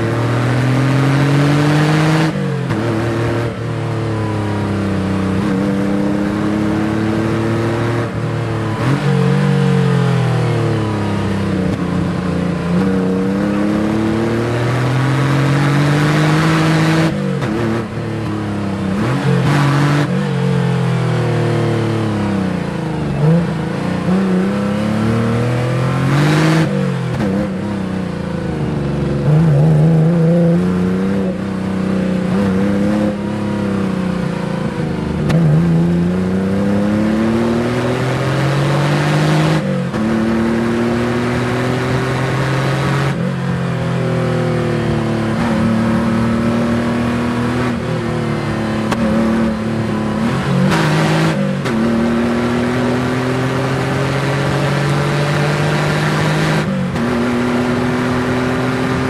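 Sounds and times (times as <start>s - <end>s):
car engine revving hard: 0.0s - 4.3s, 5.0s - 27.9s, 28.8s - 59.0s.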